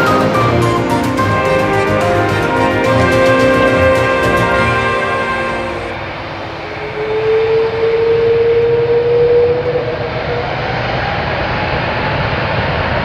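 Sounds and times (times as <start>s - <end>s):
jet engines at high thrust: 0.0s - 13.0s
rising jet engine whine: 0.0s - 13.0s.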